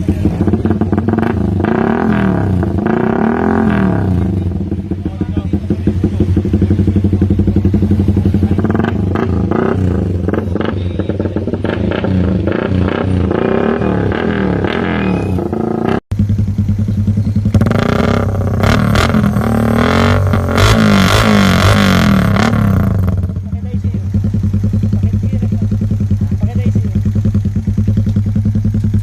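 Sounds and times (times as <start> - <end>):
motorcycle engine idling and revving: 0.0 - 29.0.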